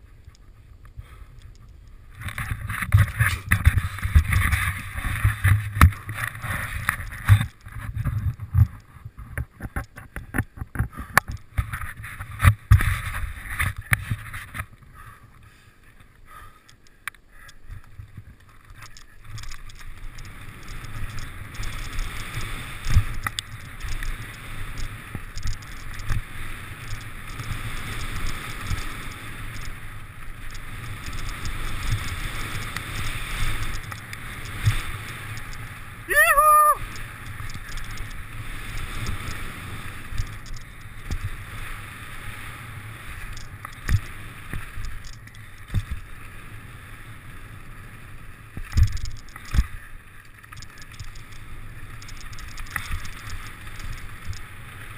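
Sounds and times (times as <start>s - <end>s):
bike tyres on dirt and gravel: 0.0s - 54.9s
bike rattling over bumps: 1.6s - 15.6s, 17.3s - 36.1s, 36.8s - 54.9s.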